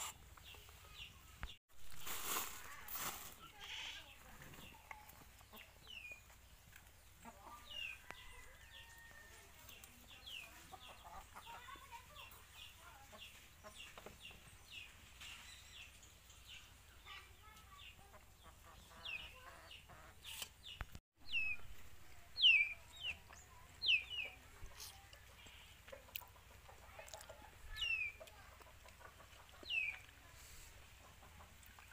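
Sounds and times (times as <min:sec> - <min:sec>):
chickens peeping: 0:03.4 - 0:31.9.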